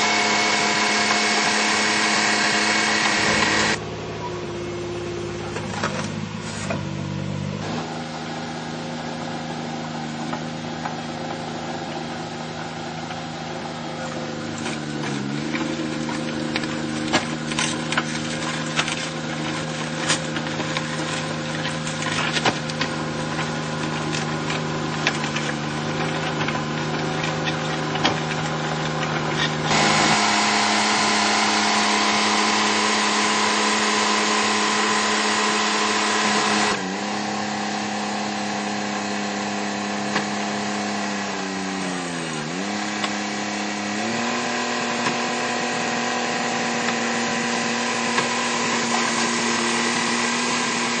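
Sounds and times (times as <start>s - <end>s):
engine running: 0.0s - 51.0s.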